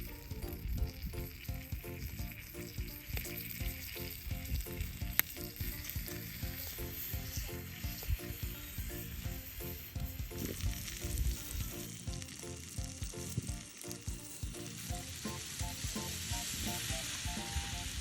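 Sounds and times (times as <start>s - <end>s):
light background music: 0.0s - 18.0s
seafood sizzling on a grill: 0.0s - 18.0s.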